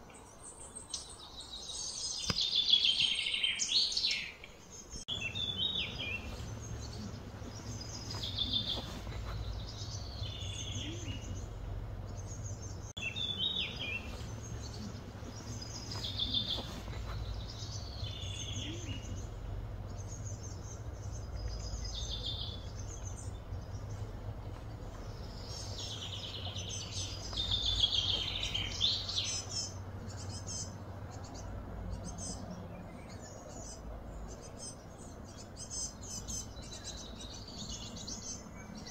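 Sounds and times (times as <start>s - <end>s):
birds chirping: 0.0s - 38.9s
low background rumble: 4.7s - 38.9s.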